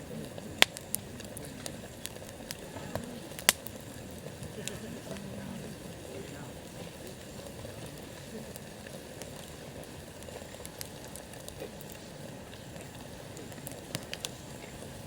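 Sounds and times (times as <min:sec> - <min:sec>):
campfire crackling: 0:00.0 - 0:15.0
sharp pops of fire: 0:00.0 - 0:15.0.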